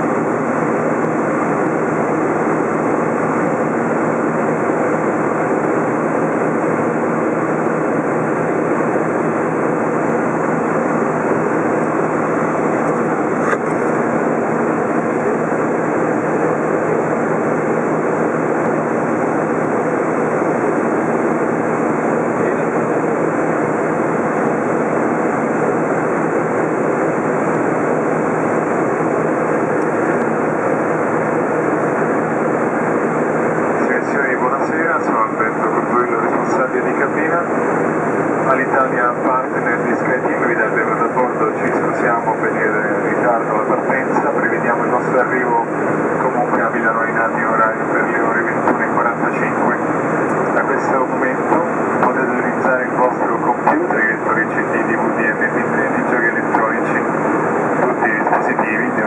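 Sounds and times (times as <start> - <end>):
jet engines in cabin: 0.0 - 59.0.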